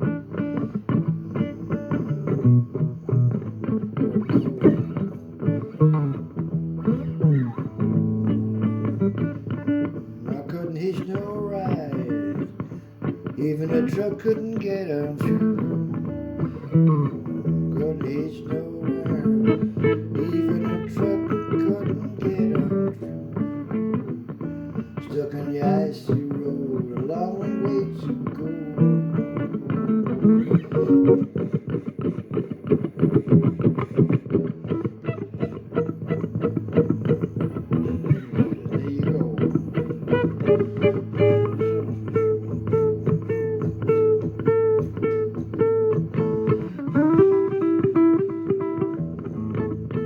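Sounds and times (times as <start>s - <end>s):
blues guitar plucked notes: 0.0s - 50.0s.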